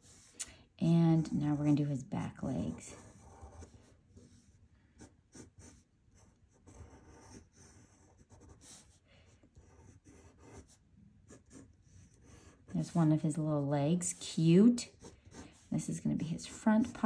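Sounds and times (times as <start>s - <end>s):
pencil scratching on paper: 0.0s - 17.0s.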